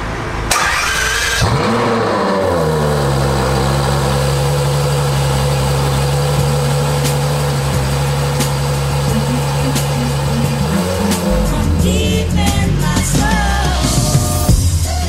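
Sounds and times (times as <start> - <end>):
car engine revving then idling: 0.5 - 14.5.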